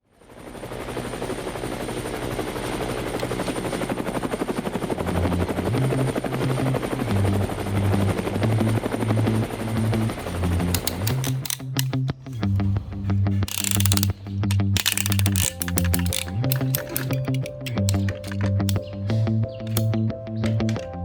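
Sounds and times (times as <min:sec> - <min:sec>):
helicopter rotor chopping: 0:00.2 - 0:12.6, 0:13.3 - 0:21.0.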